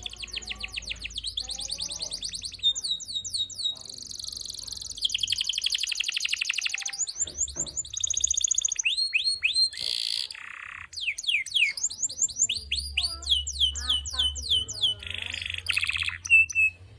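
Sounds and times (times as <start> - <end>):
canary singing trills: 0.0 - 16.9.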